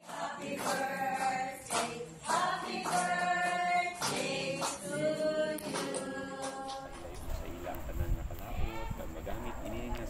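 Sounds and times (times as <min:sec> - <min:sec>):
group singing a hymn: 0:00.0 - 0:09.4.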